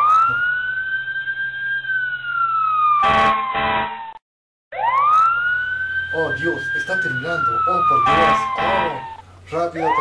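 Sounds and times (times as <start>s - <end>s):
wailing siren: 0.0s - 10.0s.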